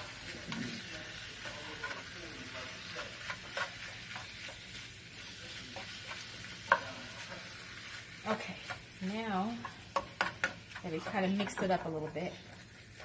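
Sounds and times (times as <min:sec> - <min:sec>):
meat sizzling in a frying pan: 0:00.0 - 0:13.0
spatula scraping a pan: 0:00.0 - 0:13.0.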